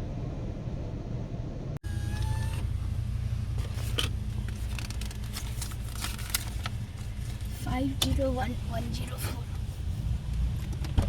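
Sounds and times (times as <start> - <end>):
car wash blowers rumbling: 0.0 - 11.0
steady low hum: 0.0 - 11.0.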